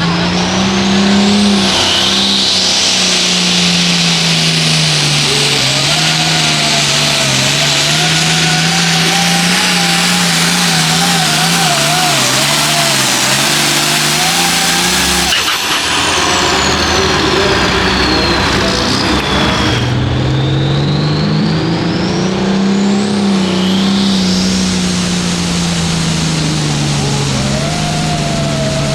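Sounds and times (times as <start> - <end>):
tractor diesel engine under load: 0.0 - 28.9.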